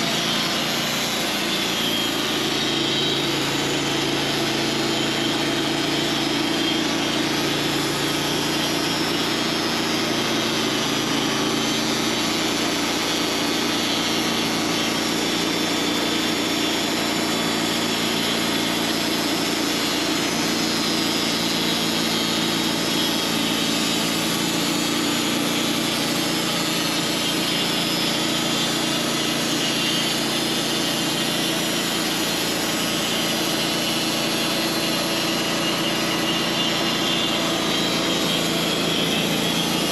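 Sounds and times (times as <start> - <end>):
sawmill sawing a log: 0.0 - 39.9.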